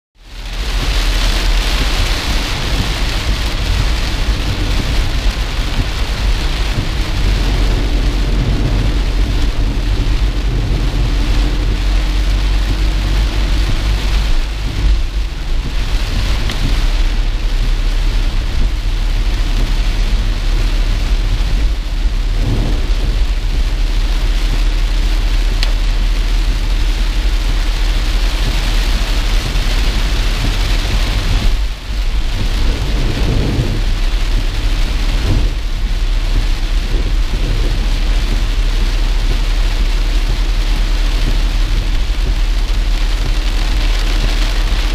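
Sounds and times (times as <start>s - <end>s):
heavy rain on car roof: 0.2s - 44.9s
low rumble: 0.2s - 44.9s.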